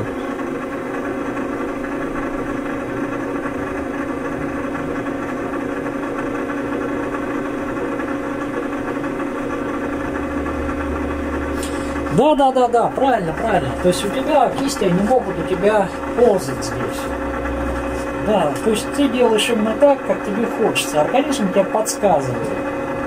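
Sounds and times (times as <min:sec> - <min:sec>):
vibration machine humming: 0:00.0 - 0:23.0.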